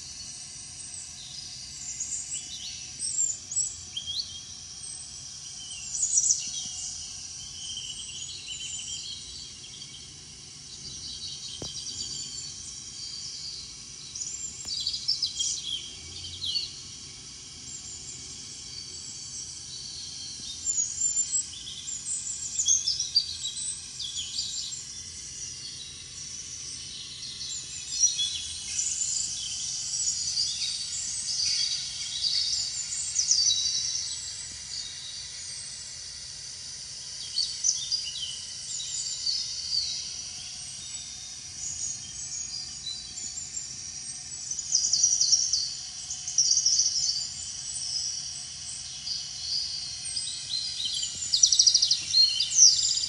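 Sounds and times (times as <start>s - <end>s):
small birds chirping: 0.0s - 35.6s, 36.5s - 53.0s.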